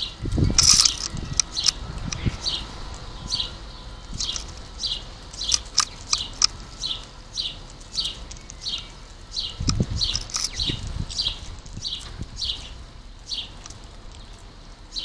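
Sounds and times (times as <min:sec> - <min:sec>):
sparrow chirping: 0:00.0 - 0:15.0.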